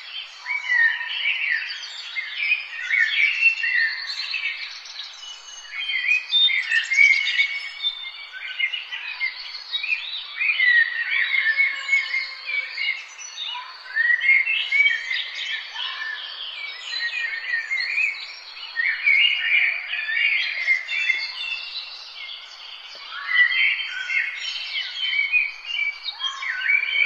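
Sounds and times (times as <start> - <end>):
songbirds singing and chirping: 0.0 - 27.0.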